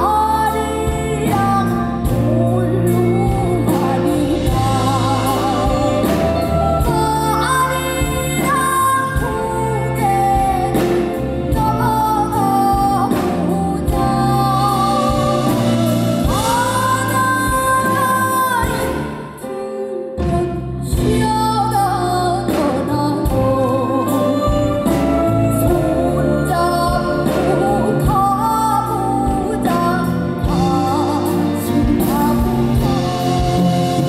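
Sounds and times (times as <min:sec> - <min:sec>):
small band playing: 0:00.0 - 0:34.0
woman singing into microphone: 0:00.0 - 0:34.0.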